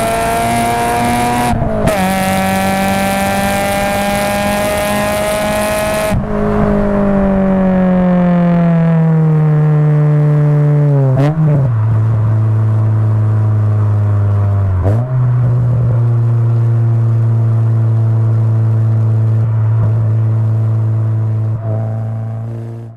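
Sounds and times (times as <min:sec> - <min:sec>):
car engine exhaust drone: 0:00.0 - 0:22.9.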